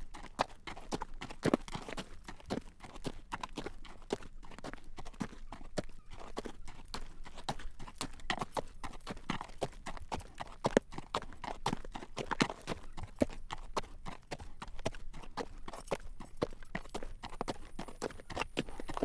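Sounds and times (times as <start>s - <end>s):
horse hooves clip-clopping on road: 0.0s - 19.0s.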